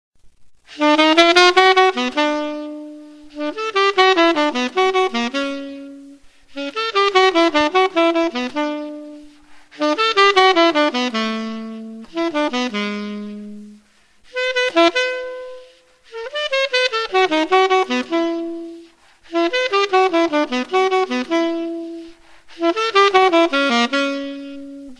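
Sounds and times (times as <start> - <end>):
solo saxophone melody: 0.7 - 24.9.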